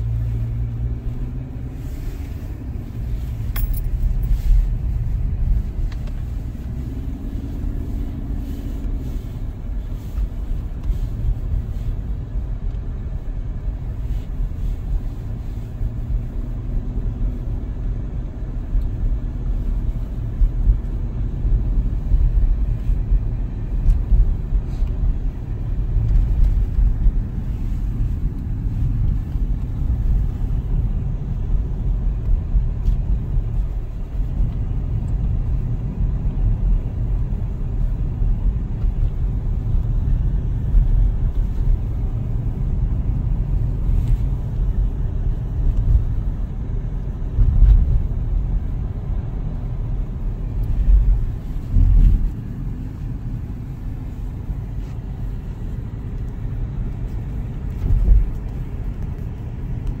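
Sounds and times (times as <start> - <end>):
car interior road rumble: 0.0 - 60.0.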